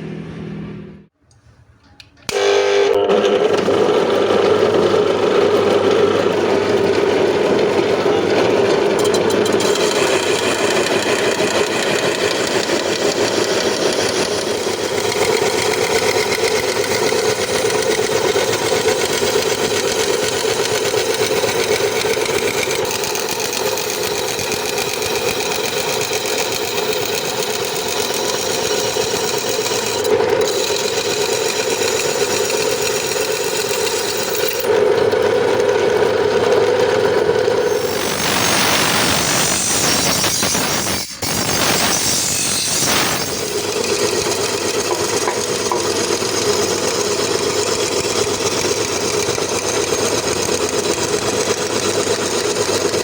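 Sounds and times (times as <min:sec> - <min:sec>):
workshop machine buzzing rattle: 0:02.2 - 0:53.0.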